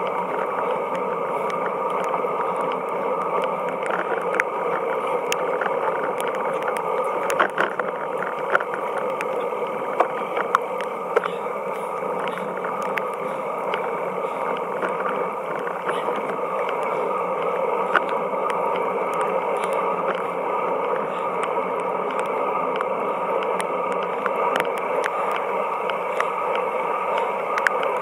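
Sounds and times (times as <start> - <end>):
muffled wind rush: 0.0 - 28.0
tyres on wet road: 0.0 - 28.0.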